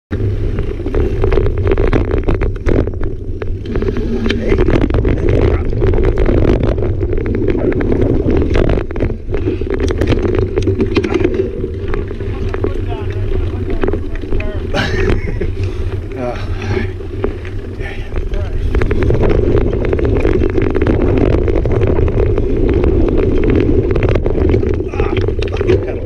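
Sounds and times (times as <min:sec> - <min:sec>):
bike clicking and rattling: 0:00.1 - 0:26.0
wind rumble on microphone: 0:00.1 - 0:26.0.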